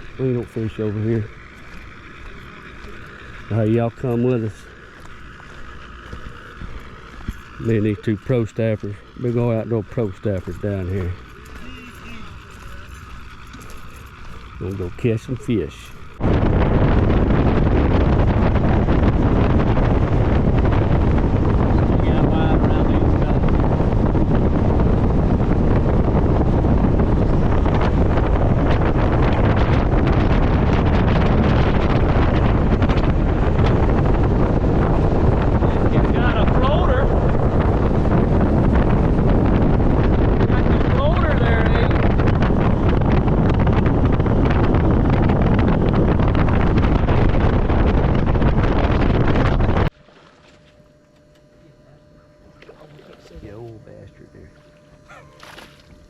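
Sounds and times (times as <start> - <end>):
wind buffeting microphone: 0.0 - 50.0
boat running over water: 0.0 - 56.0
faint steady hum: 0.0 - 56.0.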